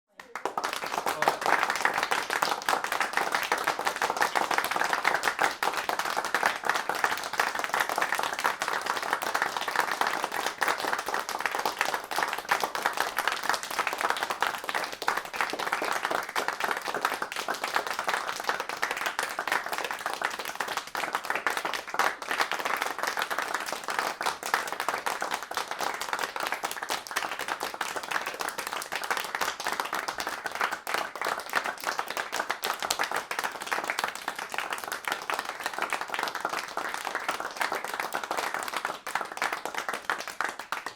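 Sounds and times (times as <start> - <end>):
large crowd applauding: 0.1 - 40.9.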